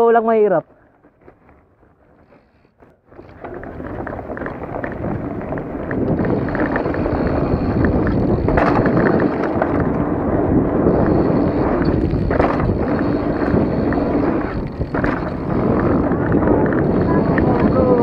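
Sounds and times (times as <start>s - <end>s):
bike tyre rumble on dirt: 0.8s - 18.0s
bike rattling clicks: 3.2s - 18.0s
wind on microphone: 3.2s - 18.0s.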